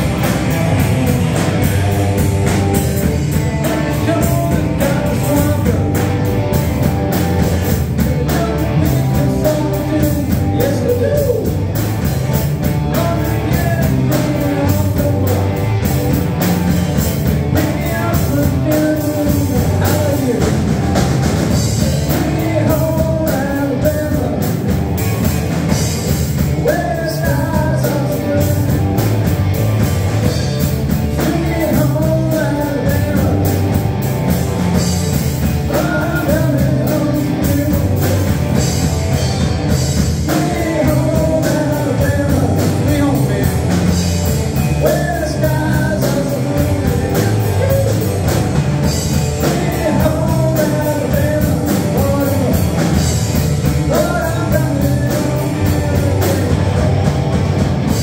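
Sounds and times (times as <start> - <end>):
drum kit: 0.0 - 58.0
electric bass: 0.0 - 58.0
electric guitars: 0.0 - 58.0
man singing: 0.8 - 15.9, 16.8 - 29.6, 30.2 - 57.1.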